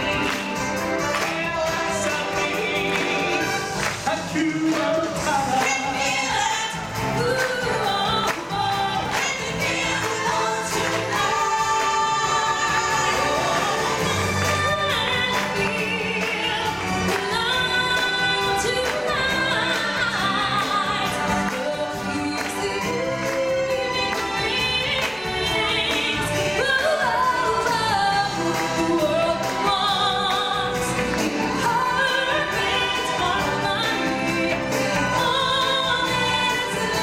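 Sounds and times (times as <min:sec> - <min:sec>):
musical accompaniment: 0:00.0 - 0:37.0.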